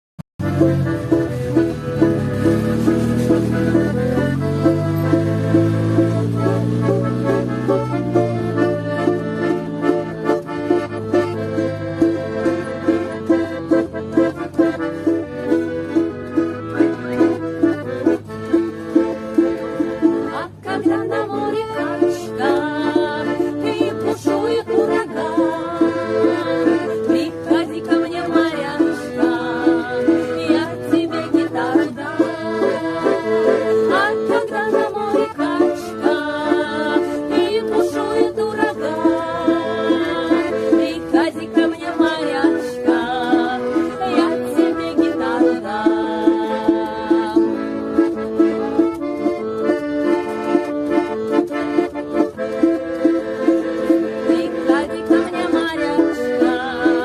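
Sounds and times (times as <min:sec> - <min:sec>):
band playing lively instrumental: 0:00.4 - 0:57.0
ensemble music with accordion: 0:00.4 - 0:57.0.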